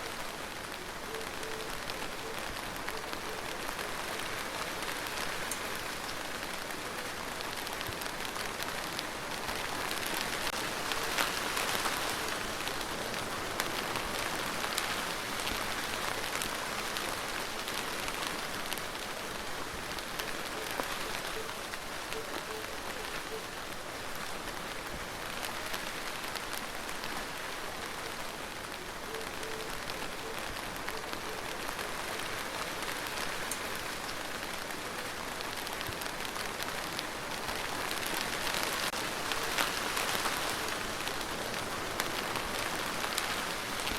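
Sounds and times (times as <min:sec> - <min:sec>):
steady rain pattering: 0:00.0 - 0:43.9.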